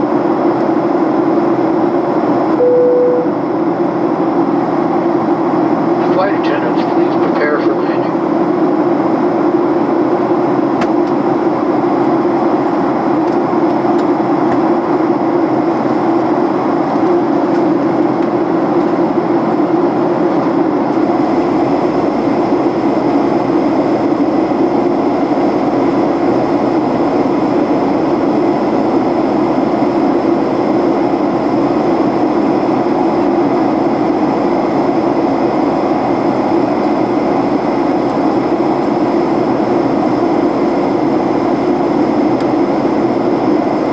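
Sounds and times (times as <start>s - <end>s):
air rushing along fuselage: 0.0s - 43.9s
airliner engine hum: 0.0s - 43.9s.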